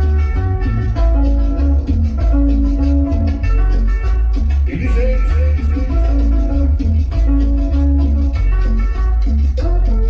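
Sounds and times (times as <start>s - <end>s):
latin dance music with heavy bass: 0.0s - 10.0s.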